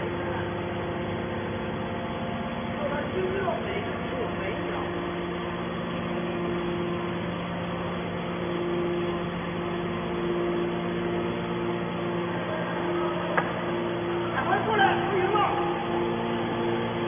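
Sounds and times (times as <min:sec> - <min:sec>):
can baler machine hum: 0:00.0 - 0:17.0.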